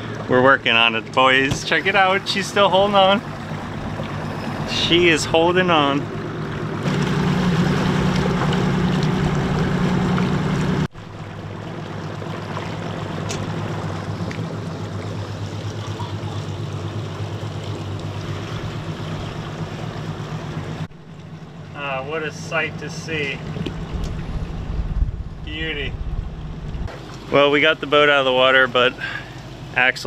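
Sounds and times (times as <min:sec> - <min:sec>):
outboard motor running: 0:00.0 - 0:30.0
water washing past hull: 0:00.0 - 0:30.0.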